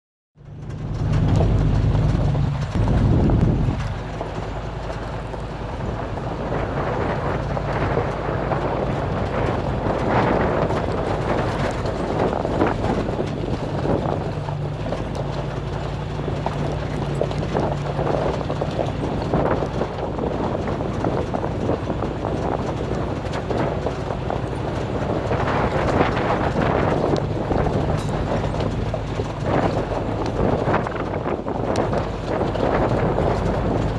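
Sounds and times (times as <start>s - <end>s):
truck clattering and rattling: 0.4s - 33.9s
truck engine humming: 0.4s - 33.9s.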